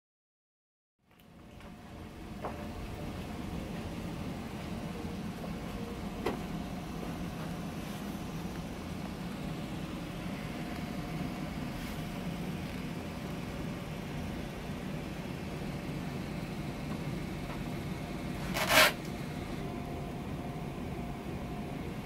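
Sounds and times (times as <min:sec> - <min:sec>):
faint hum: 0:01.0 - 0:22.0.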